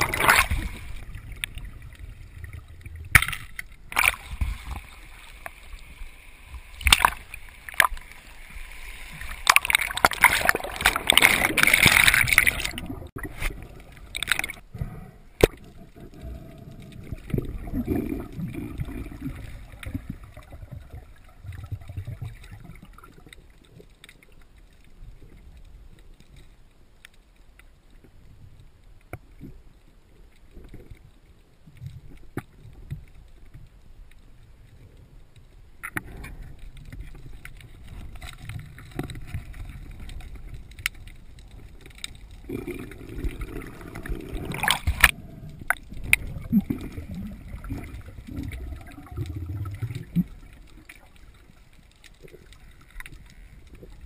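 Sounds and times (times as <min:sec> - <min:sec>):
water swishing underwater: 0:00.0 - 0:54.0.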